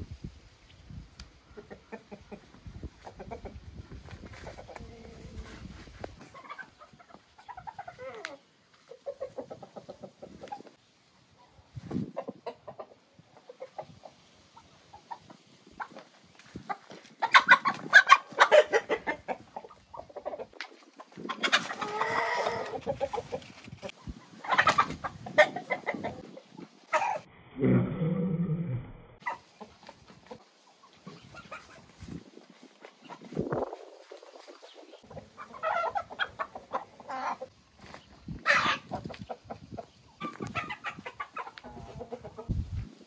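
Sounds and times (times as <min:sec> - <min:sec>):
chickens clucking: 0:01.2 - 0:27.3, 0:29.2 - 0:43.0.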